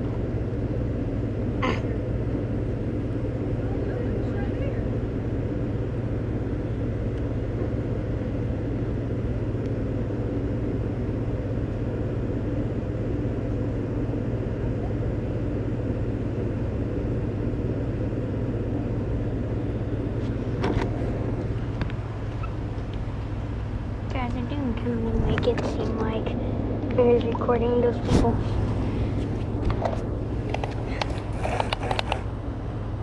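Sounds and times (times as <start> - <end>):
low engine-like rumble: 0.0 - 33.0.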